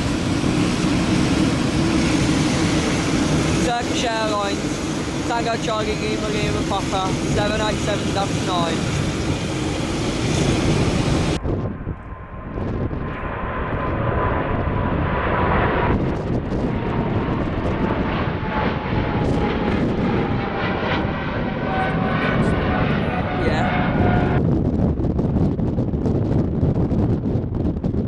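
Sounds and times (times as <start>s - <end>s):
jet engines taxiing: 0.0s - 28.0s
jet plane departing overhead: 0.0s - 28.0s.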